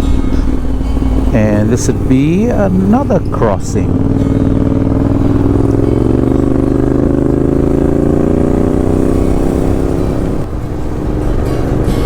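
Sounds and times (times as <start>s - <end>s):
motorcycle engine under load: 0.0s - 12.0s.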